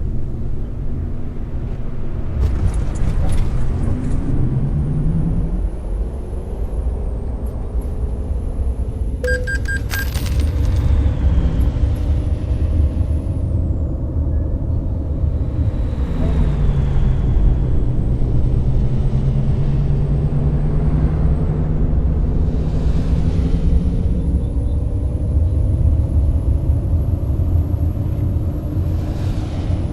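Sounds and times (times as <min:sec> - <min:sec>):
bus engine rumble: 0:00.0 - 0:29.9
road noise: 0:00.0 - 0:29.9.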